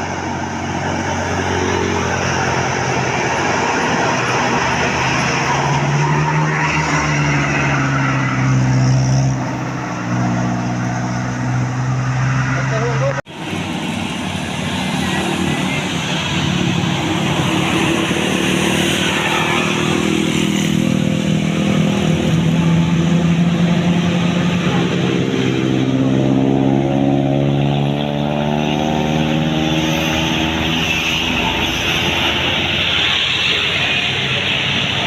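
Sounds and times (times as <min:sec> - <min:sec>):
bus engine accelerating: 0:00.0 - 0:35.0
road traffic: 0:00.0 - 0:35.0.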